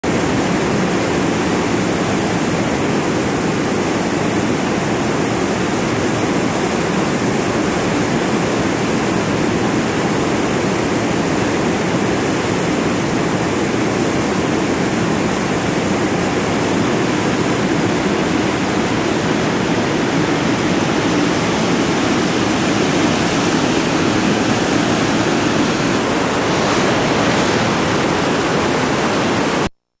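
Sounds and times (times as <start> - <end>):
whitewater rapid rushing: 0.0 - 29.7.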